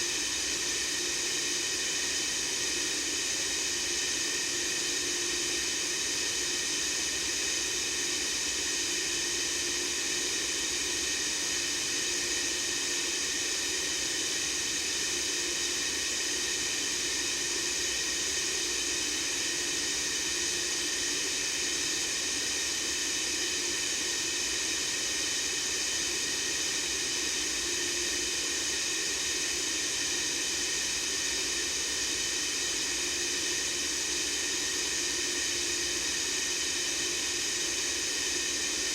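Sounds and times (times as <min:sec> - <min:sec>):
steady white-noise hiss: 0:00.0 - 0:38.9.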